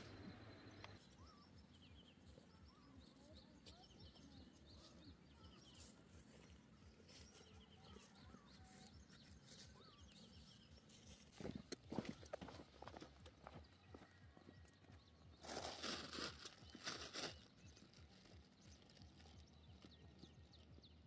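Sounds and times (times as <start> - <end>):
faint bird chirps: 0.0 - 21.0
outdoor background noise: 0.0 - 21.0.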